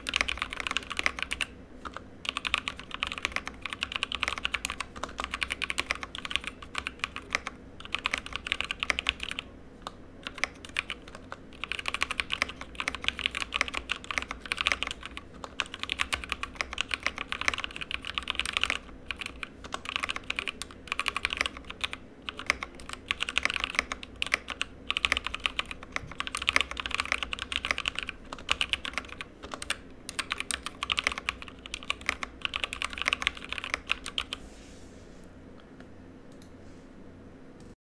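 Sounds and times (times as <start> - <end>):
fast mechanical keyboard typing: 0.0 - 34.4.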